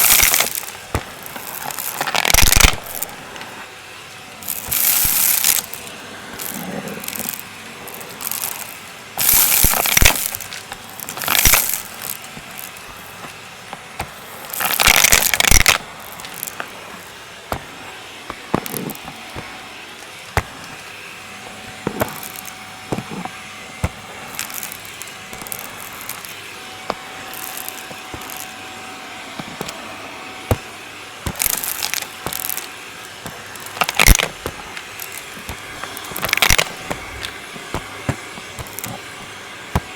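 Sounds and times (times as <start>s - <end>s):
crunching bursts: 0.0s - 39.9s
debris crackling up vacuum nozzle: 0.0s - 39.9s
vacuum cleaner motor: 0.0s - 39.9s.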